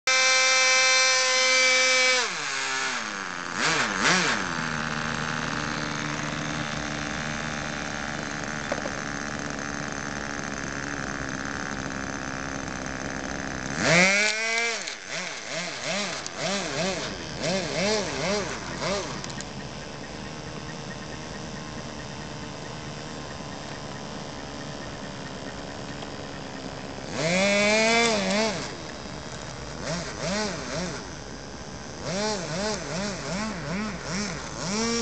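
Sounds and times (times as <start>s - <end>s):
model airplane engine revving: 0.1s - 35.0s.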